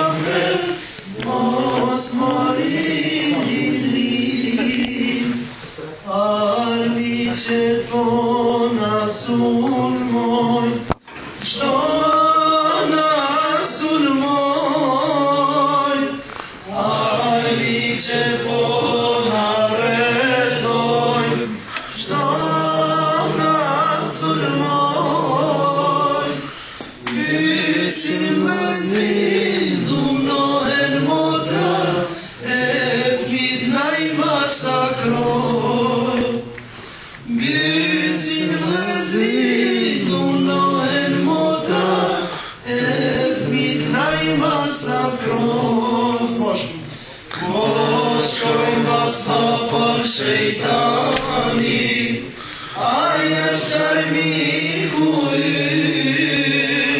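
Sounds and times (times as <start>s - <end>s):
group of people singing: 0.0s - 56.9s.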